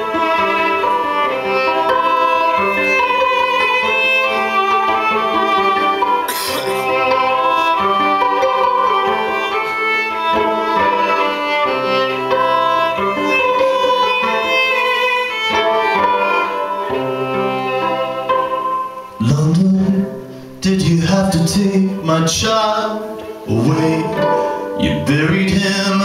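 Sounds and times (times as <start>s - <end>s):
violin melody: 0.0s - 26.0s.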